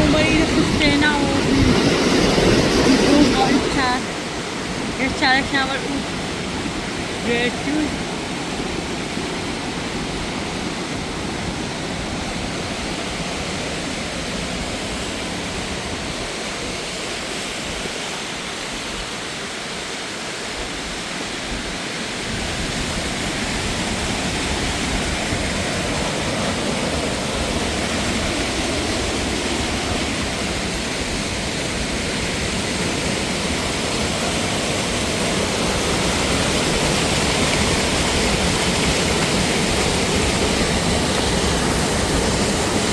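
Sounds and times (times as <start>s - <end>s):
rushing falling water: 0.0s - 42.9s.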